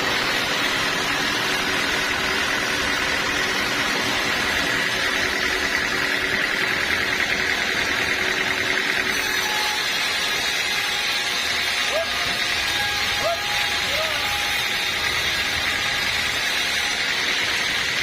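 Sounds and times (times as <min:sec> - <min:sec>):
band sawmill running with high whine: 0:00.0 - 0:18.0.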